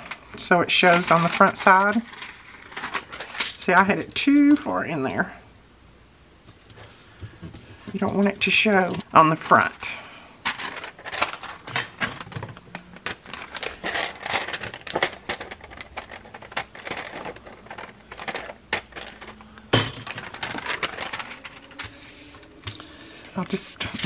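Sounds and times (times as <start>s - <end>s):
paper rustling and crinkling: 0.0s - 4.7s, 6.4s - 9.8s, 10.4s - 24.0s.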